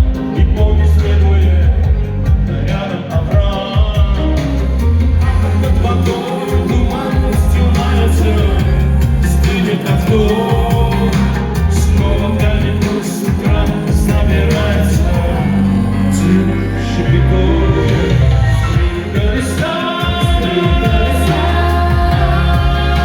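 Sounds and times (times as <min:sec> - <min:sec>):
heavy bass line: 0:00.0 - 0:23.0
pop-rock instrumental music: 0:00.0 - 0:23.0
drum hits: 0:01.6 - 0:15.5, 0:17.8 - 0:23.0.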